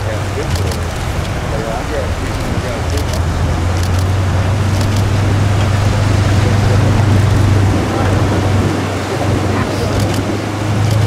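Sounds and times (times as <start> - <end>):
river rushing: 0.0 - 11.0
vehicle engine rumbling: 0.0 - 11.0.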